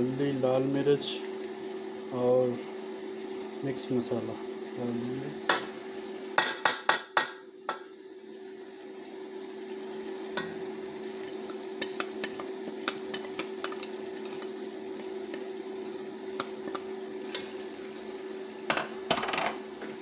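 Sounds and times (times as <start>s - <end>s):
spices sizzling in hot oil: 0.1s - 20.0s.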